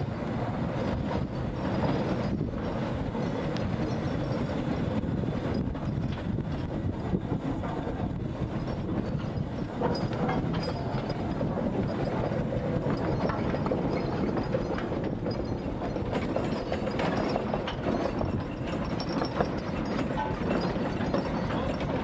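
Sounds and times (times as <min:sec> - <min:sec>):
iron wheels rolling over bricks: 0:00.0 - 0:22.0
steam engine rumbling and clanking: 0:00.0 - 0:22.0.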